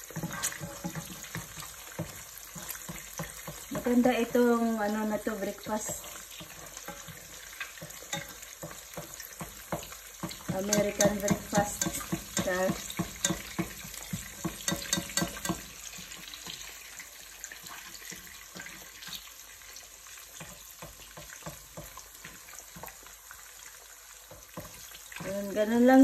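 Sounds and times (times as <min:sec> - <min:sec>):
eggs sizzling in hot oil: 0:00.0 - 0:26.0.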